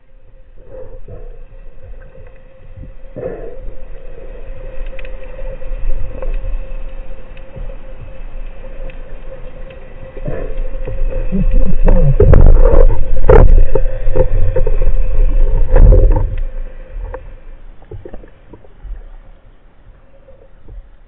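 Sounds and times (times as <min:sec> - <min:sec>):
faint hum: 0:00.0 - 0:21.0
underwater rushing rumble: 0:00.0 - 0:21.0.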